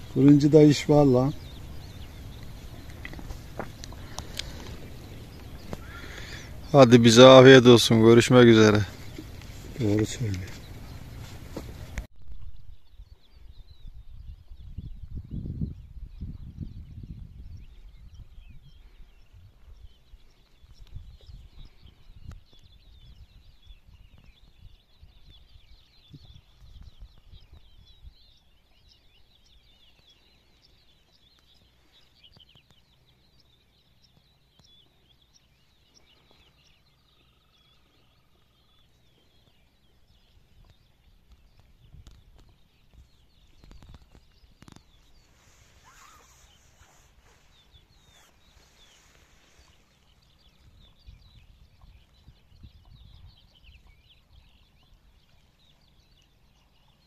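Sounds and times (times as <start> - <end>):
wind rumble on microphone: 0.0 - 7.0, 7.9 - 29.9, 37.5 - 57.0.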